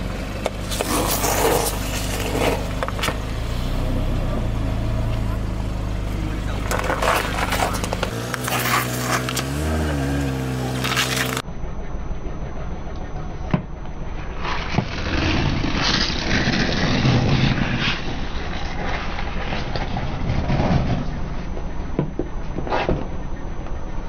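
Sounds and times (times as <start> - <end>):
car engine humming: 0.0 - 24.0.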